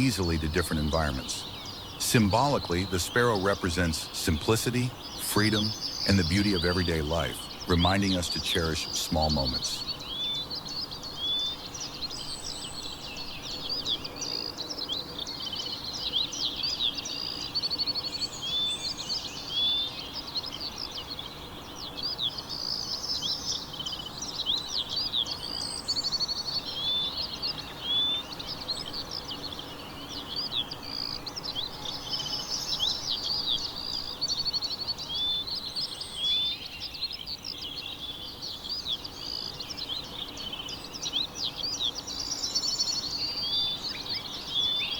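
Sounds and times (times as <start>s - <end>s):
small songbirds chirping and trilling: 0.0s - 44.9s.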